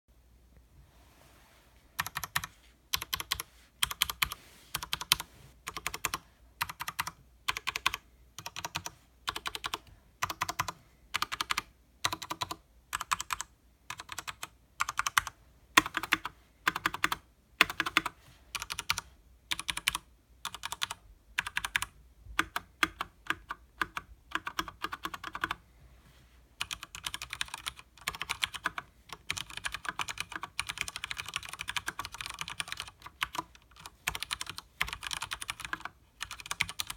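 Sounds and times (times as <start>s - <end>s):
mechanical keyboard typing: 2.0s - 25.6s, 26.6s - 36.9s.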